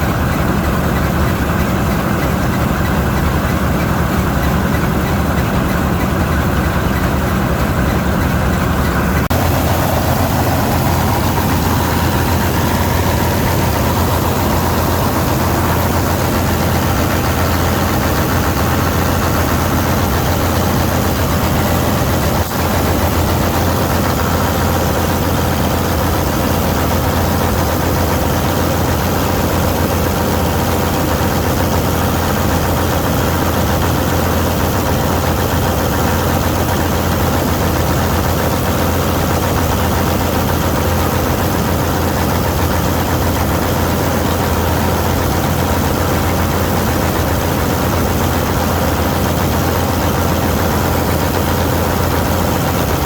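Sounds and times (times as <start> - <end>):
combine harvester engine drone: 0.0 - 53.0
threshing machinery rattle: 0.0 - 53.0.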